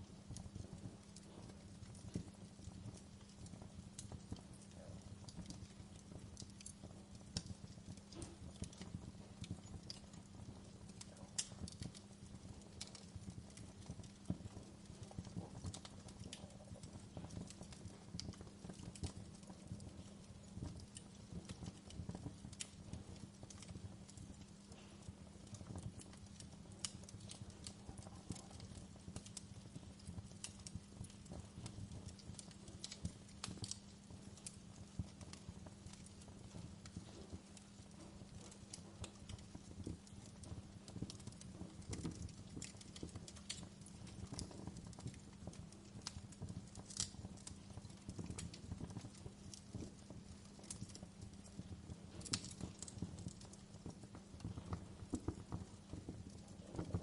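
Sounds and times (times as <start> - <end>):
fire crackling and popping: 0.0 - 57.0
low rumble of fire: 0.0 - 57.0.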